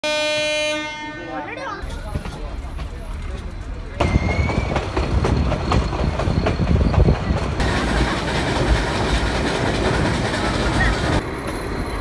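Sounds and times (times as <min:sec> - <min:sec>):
train wheels clacking over rail joints: 0:01.8 - 0:12.0.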